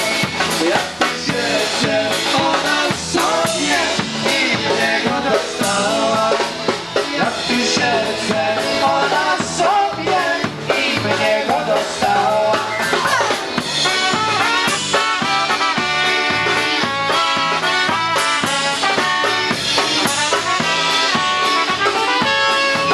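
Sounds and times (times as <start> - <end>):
drum kit beat: 0.0 - 22.9
polka band playing: 0.0 - 22.9.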